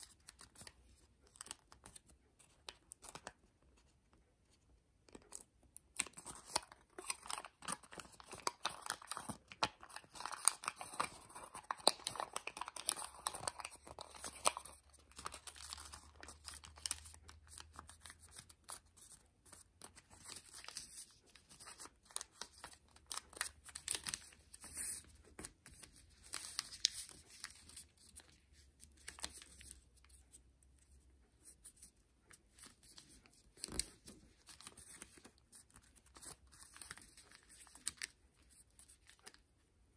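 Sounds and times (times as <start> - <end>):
paper rustling and crinkling: 6.0 - 30.4, 31.4 - 39.4.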